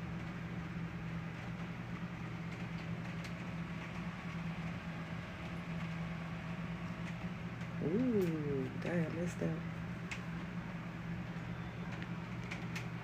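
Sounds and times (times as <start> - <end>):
low even hum: 0.0 - 13.0.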